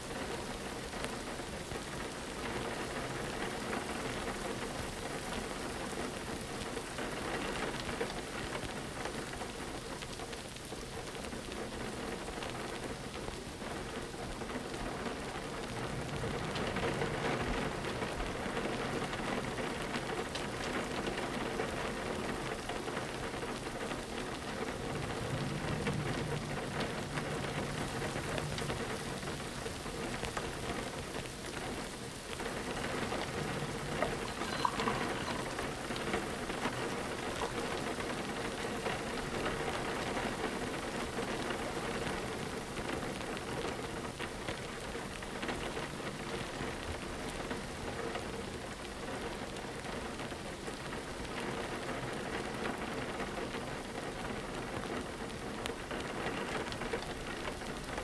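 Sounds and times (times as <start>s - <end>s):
rain pattering on a window: 0.0s - 58.0s.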